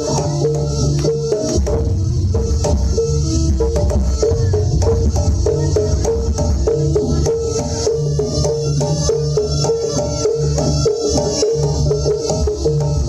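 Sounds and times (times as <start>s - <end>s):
hand drums: 0.0s - 13.0s
metal pitched percussion: 0.0s - 13.0s.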